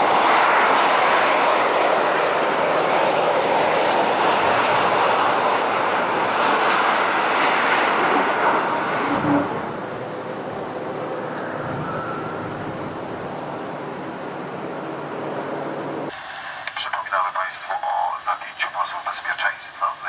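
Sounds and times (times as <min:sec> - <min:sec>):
aircraft engines rushing: 0:00.0 - 0:20.0.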